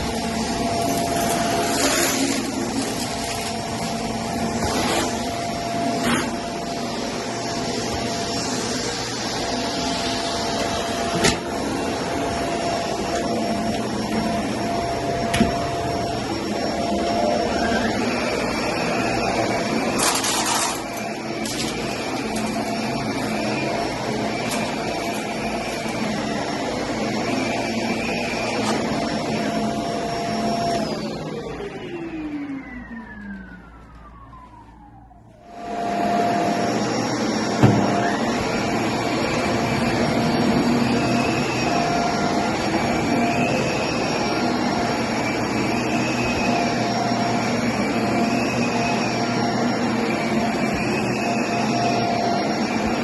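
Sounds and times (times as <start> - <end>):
higher whine: 0.0 - 53.0
vacuum cleaner on carpet: 0.0 - 53.0.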